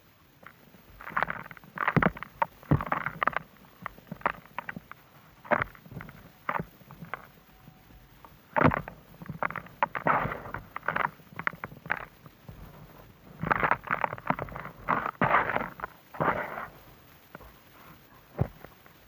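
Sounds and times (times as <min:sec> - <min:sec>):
crumbly blocks crunching: 0:00.0 - 0:19.0.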